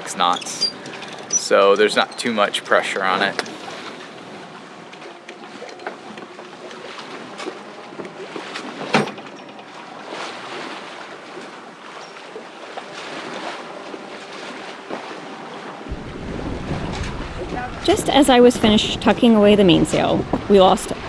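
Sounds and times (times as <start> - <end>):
wind and water rushing: 0.0 - 21.0.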